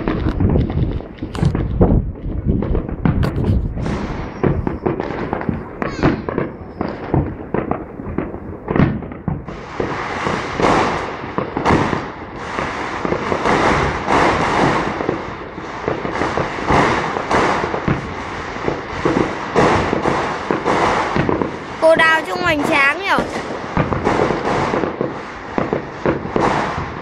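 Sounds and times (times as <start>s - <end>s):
firework shells bursting: 2.6s - 27.0s.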